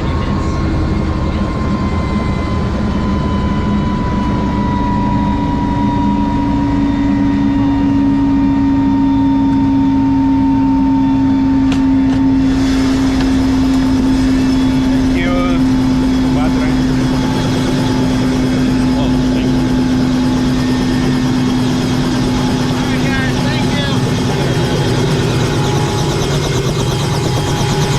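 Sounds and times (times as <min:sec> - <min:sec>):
helicopter drone and whine: 0:00.0 - 0:27.9.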